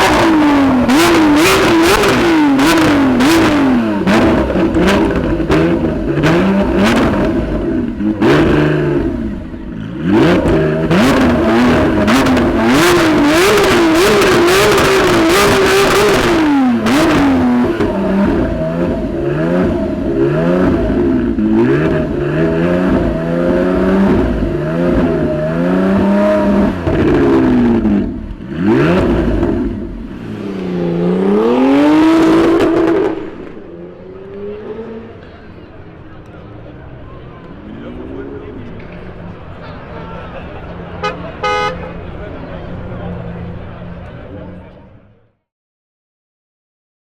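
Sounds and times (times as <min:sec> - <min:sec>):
sports car engine revving: 0:00.0 - 0:36.1, 0:40.6 - 0:44.4.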